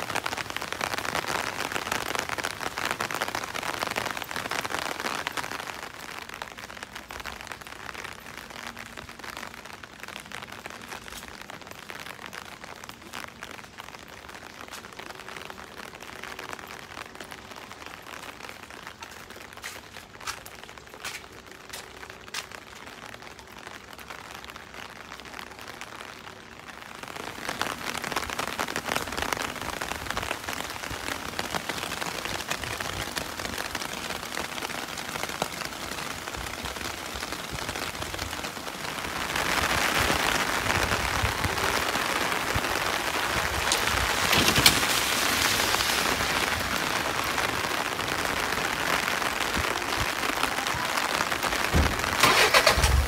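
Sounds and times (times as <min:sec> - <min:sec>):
rain on a wet street: 0:00.0 - 0:53.0.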